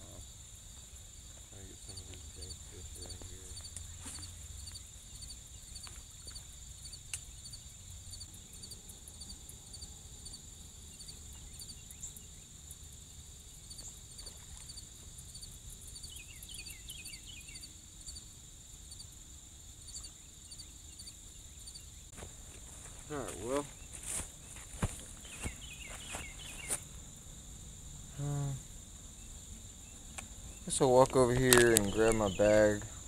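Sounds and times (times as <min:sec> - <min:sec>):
insect chorus trilling: 0:00.0 - 0:33.0.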